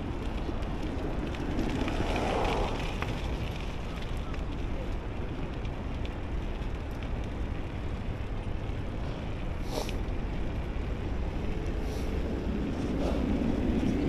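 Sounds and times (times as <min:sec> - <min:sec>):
road noise: 0:00.0 - 0:14.0
wind rumble on microphone: 0:00.0 - 0:14.0.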